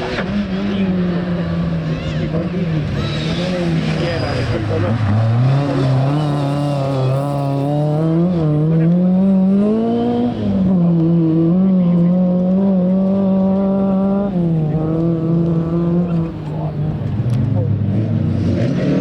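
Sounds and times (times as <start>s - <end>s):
rally car engine pulling hard: 0.0s - 19.0s.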